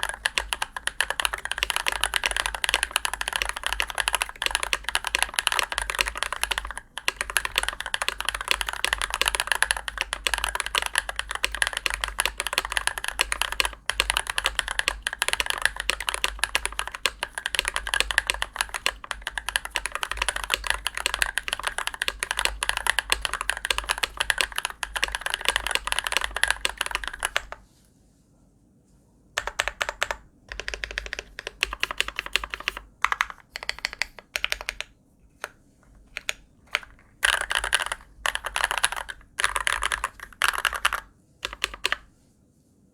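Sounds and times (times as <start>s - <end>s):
mechanical keyboard typing: 0.0s - 27.6s, 29.4s - 42.1s.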